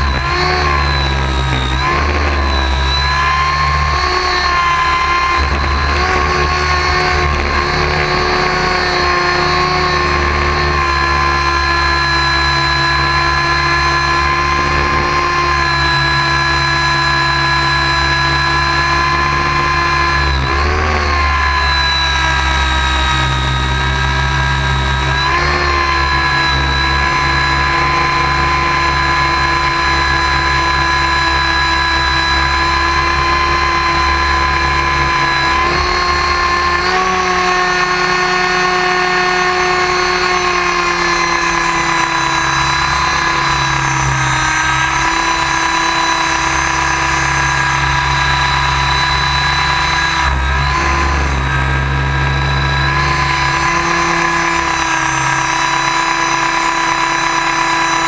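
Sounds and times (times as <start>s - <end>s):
rc helicopter high whine: 0.0s - 58.0s
rotor air rushing: 0.0s - 58.0s.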